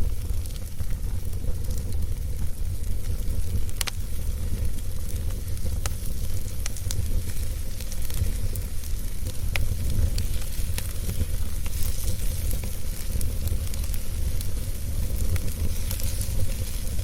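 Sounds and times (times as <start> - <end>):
fire crackles and pops: 0.0 - 17.0
fire rumble and hiss: 0.0 - 17.0.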